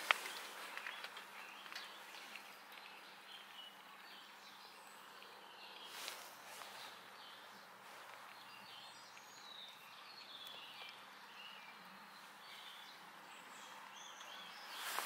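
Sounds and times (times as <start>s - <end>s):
faint bird chirps: 0.0s - 15.0s
steady background hiss: 0.0s - 15.0s.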